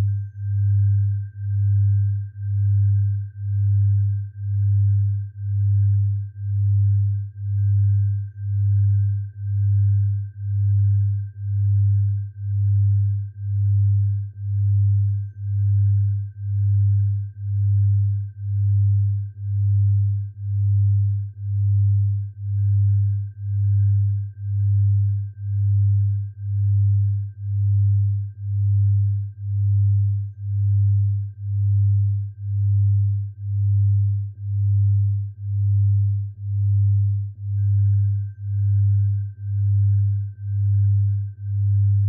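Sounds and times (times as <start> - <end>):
faint steady high tone: 0.0 - 42.0
pulsing low pure tone: 0.0 - 42.0.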